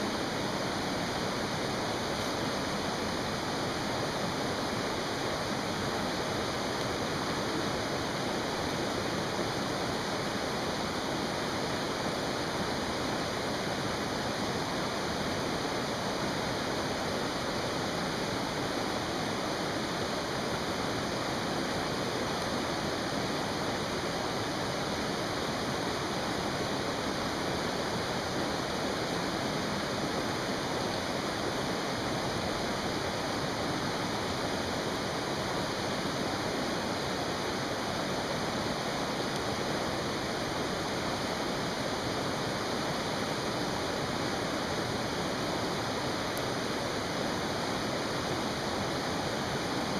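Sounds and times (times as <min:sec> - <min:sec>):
stream rushing: 0:00.0 - 0:49.9.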